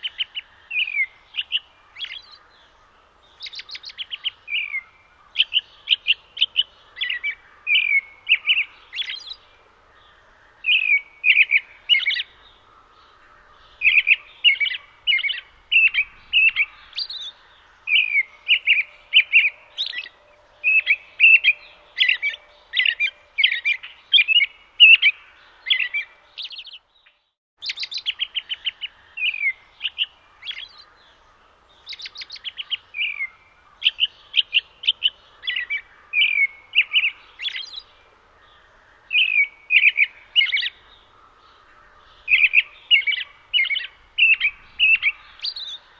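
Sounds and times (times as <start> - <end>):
robin singing: 0.0 - 45.9.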